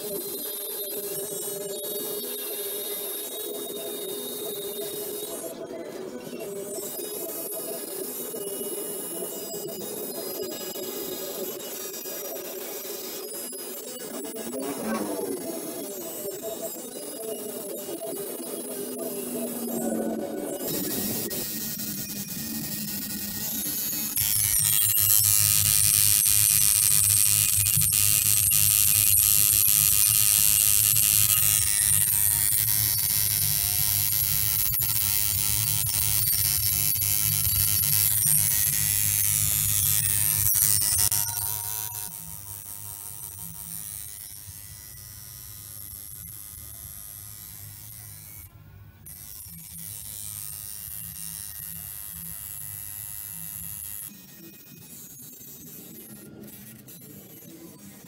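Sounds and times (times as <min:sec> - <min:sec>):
tattoo machine buzzing: 0:00.0 - 0:58.0.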